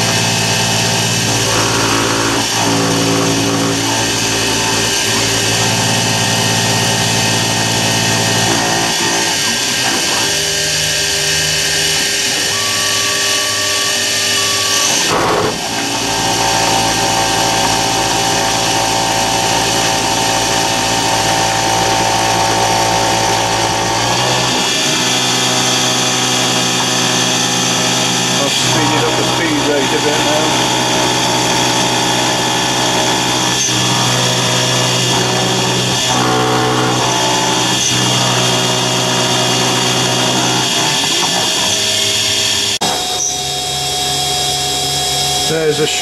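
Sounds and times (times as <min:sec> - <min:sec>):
milling machine cutting metal: 0:00.0 - 0:46.0.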